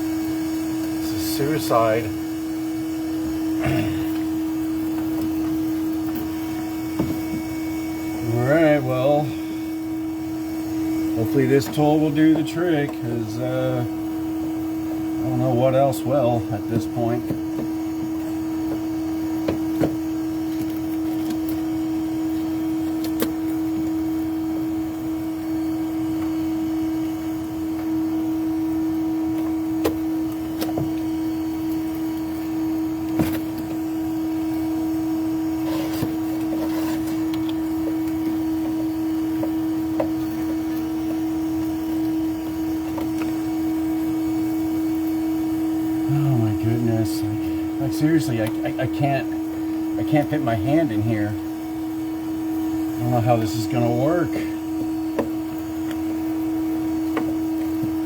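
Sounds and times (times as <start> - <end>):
steady motor drone: 0.0 - 58.0.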